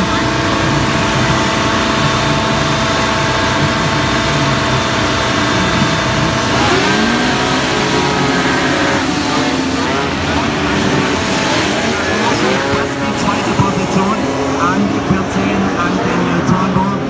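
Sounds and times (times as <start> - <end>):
hovercraft engines revving: 0.0 - 17.0.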